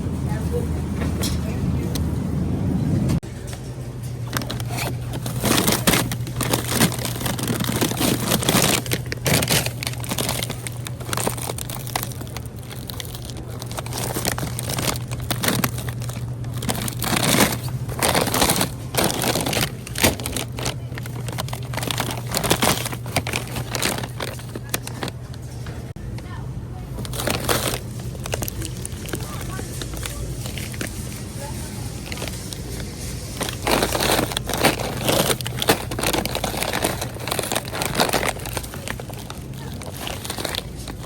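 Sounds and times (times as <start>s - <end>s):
steady low hum: 0.0s - 41.0s
crinkling handling noises: 3.2s - 41.0s.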